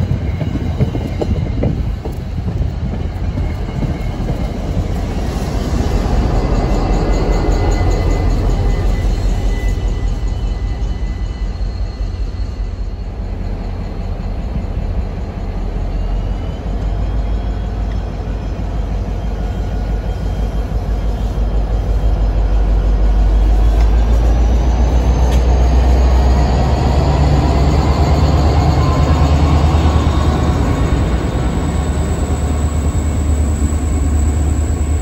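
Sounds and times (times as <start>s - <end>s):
locomotive engine drone: 0.0s - 35.0s
train wheels rolling on rails: 0.0s - 35.0s.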